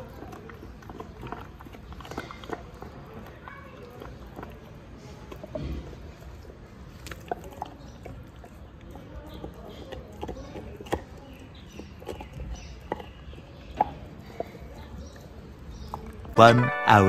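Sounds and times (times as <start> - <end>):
dog teeth cracking on bone: 0.0 - 16.4.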